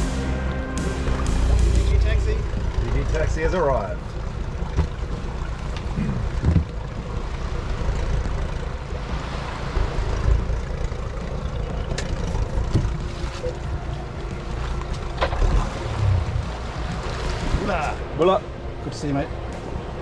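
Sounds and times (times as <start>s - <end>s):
small boat motor running: 0.0s - 20.0s.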